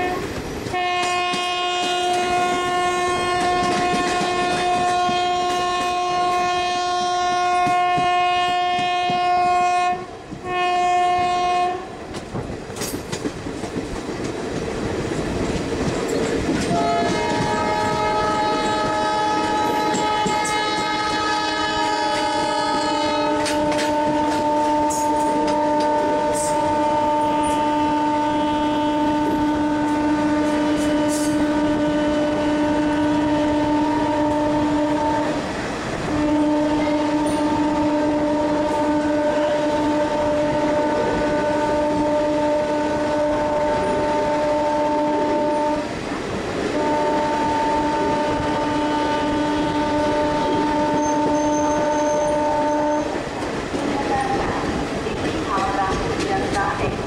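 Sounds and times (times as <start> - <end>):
train horn blast: 0.0 - 12.2, 16.6 - 46.0, 46.6 - 57.0
train coaches rumbling and clattering: 0.0 - 57.0.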